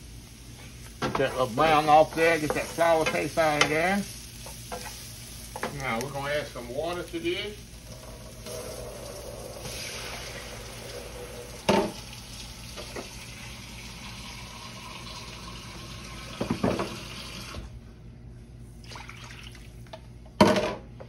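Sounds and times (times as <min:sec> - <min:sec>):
water hissing into hot skillet: 0:00.0 - 0:17.6.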